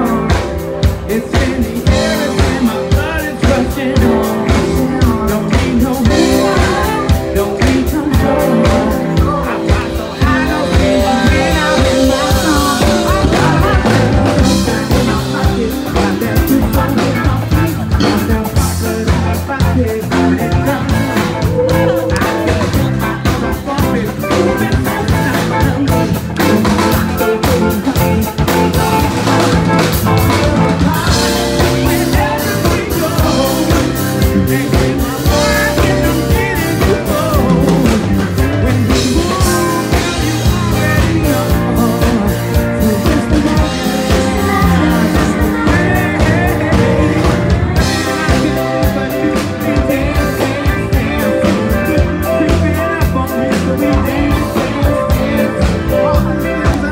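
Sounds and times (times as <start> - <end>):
drum kit beat: 0.0 - 56.9
live rock band playing: 0.0 - 56.9.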